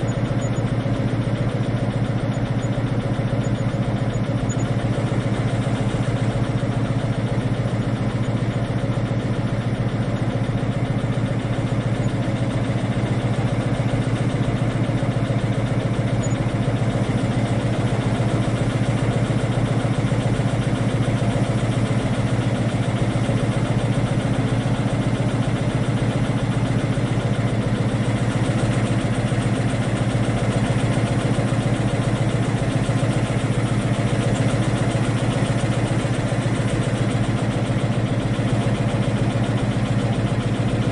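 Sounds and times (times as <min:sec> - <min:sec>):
diesel train engine drone: 0:00.0 - 0:40.9.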